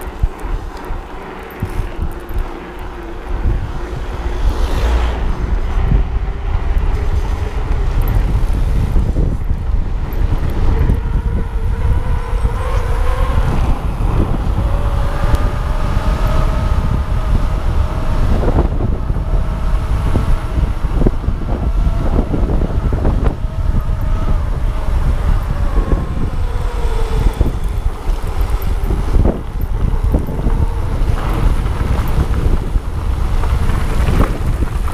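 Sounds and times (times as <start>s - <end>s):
electric motor whine: 0.0s - 34.9s
tyres rumbling on road: 0.0s - 34.9s
wind buffeting microphone: 0.0s - 34.9s.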